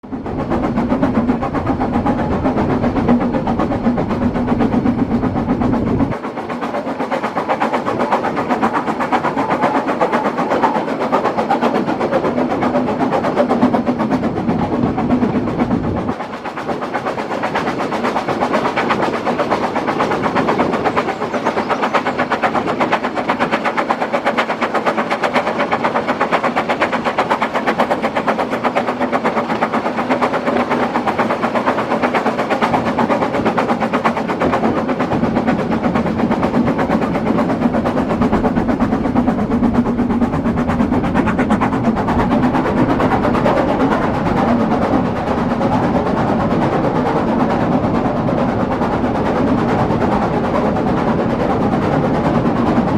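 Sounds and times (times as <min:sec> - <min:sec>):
train wheels clattering on track: 0:00.0 - 0:52.9.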